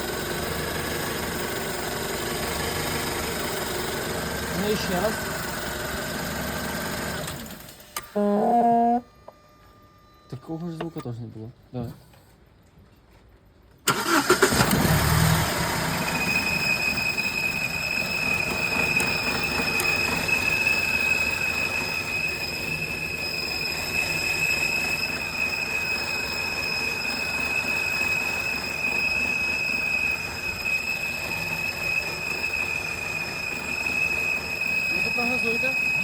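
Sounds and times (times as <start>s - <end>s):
car engine starting and running: 0.0s - 8.6s, 13.8s - 36.0s
high steady engine whine: 0.0s - 11.2s, 13.9s - 36.0s.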